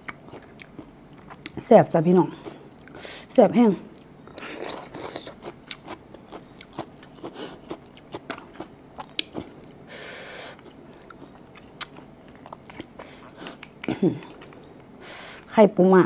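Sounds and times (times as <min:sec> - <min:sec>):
person chewing wetly: 0:00.0 - 0:01.6, 0:02.4 - 0:03.0, 0:03.9 - 0:09.8, 0:10.5 - 0:15.5.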